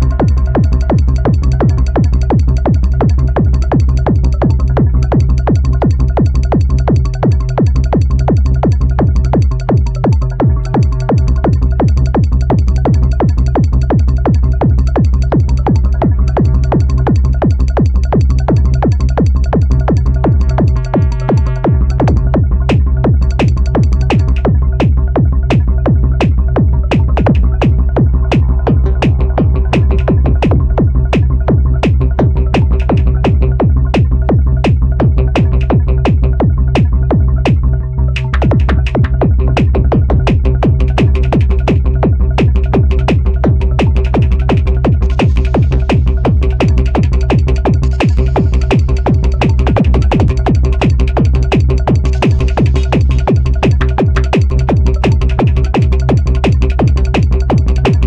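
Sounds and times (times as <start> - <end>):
drum machine percussion: 0.0 - 58.0
heavy sustained bass: 0.0 - 58.0.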